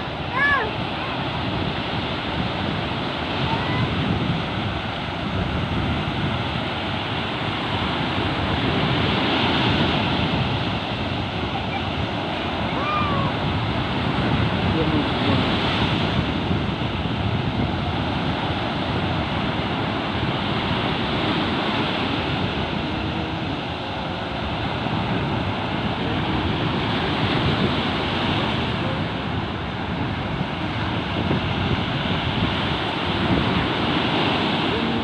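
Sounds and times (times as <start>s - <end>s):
sea surf: 0.0s - 35.0s
wind on microphone: 0.0s - 35.0s.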